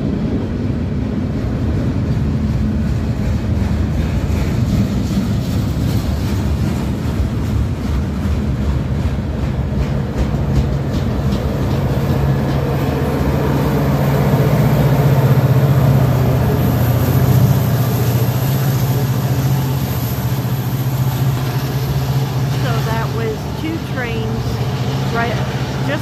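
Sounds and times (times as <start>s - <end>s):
diesel locomotive engine drone: 0.0s - 26.0s
freight cars rumbling on rails: 0.0s - 26.0s.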